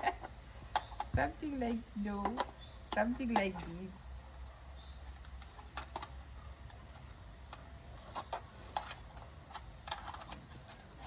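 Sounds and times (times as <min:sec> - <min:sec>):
plastic parts clicking and tapping: 0:00.0 - 0:03.8, 0:05.0 - 0:11.0.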